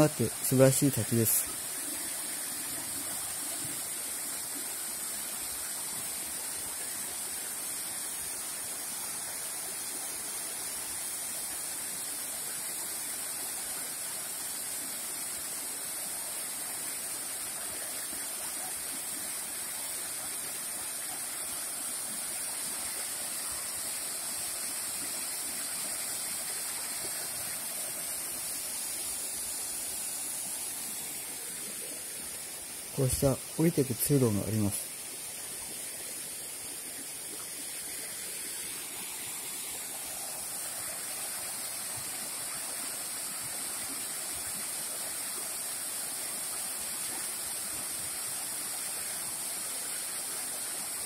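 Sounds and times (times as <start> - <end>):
waterfall and stream rushing: 0.0 - 51.0.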